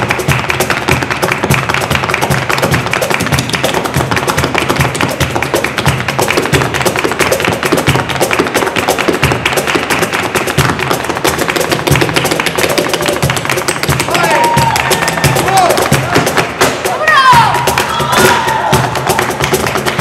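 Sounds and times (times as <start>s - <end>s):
cajon beats: 0.0s - 20.0s
dance footwork on wooden floor: 0.0s - 20.0s
hand-clapping: 0.0s - 20.0s.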